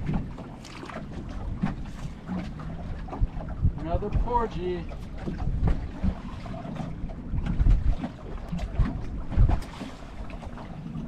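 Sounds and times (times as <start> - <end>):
low thumps and knocks: 0.0 - 10.4
wind blowing across microphone: 1.1 - 10.7.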